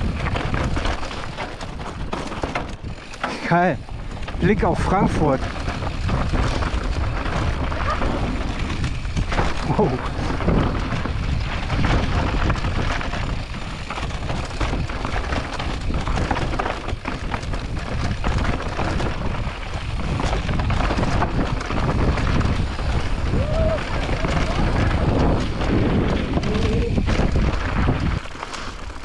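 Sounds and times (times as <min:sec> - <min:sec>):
wind rushing on microphone: 0:00.0 - 0:28.3
tyres rumbling over dirt: 0:00.0 - 0:29.0.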